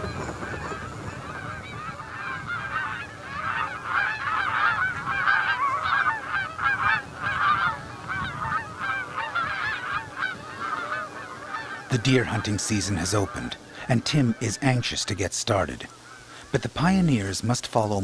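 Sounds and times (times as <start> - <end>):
geese honking: 0.0 - 17.4.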